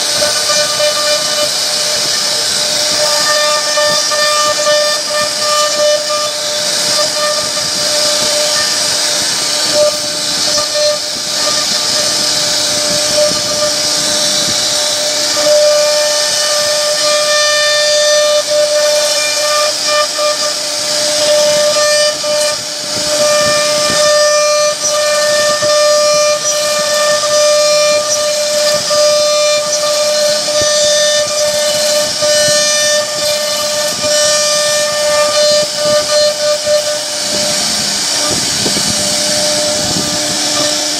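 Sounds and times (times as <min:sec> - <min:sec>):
hiss of wood cutting: 0:00.0 - 0:40.9
router spindle whining: 0:00.0 - 0:40.9.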